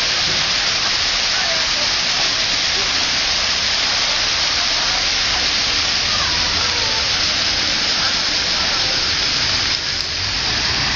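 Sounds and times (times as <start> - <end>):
fountain water splashing: 0.0 - 10.9.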